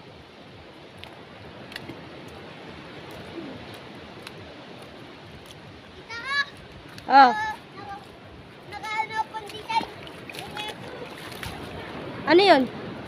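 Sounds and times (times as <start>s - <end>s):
steady outdoor background noise: 0.0s - 13.0s.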